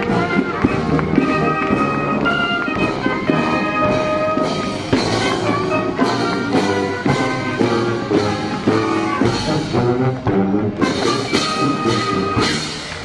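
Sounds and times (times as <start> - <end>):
music with brass and steady beat: 0.0 - 13.0.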